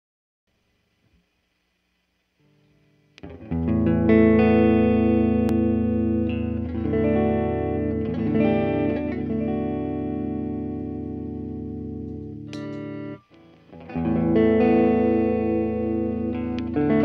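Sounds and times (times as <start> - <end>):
electric guitar strumming chords: 2.6 - 17.0.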